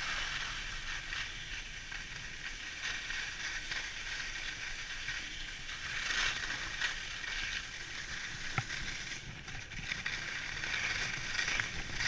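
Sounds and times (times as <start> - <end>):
skis scraping over snow: 0.0 - 12.0
wind rumble on microphone: 0.0 - 12.0.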